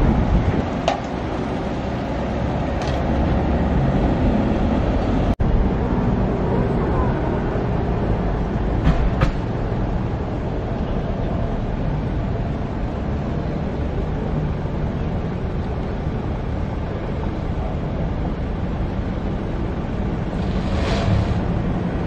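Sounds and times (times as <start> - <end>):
engine low rumble: 0.0 - 22.0.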